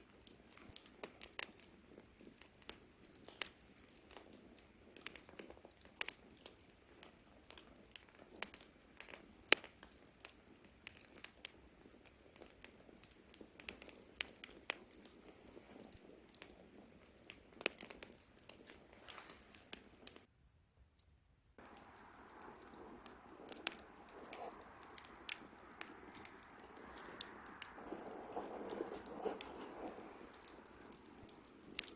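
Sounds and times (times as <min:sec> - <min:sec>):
campfire wood crackling: 0:00.0 - 0:20.3, 0:21.6 - 0:31.9
fire hiss: 0:00.0 - 0:20.3, 0:21.6 - 0:31.9
fire popping and snapping: 0:00.0 - 0:20.3, 0:21.6 - 0:31.9.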